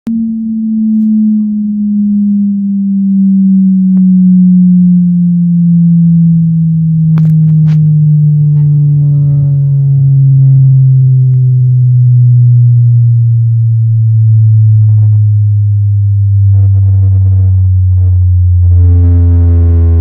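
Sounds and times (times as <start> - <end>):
subwoofer falling test tone: 0.0 - 20.0
buzzy overtones: 0.1 - 20.0.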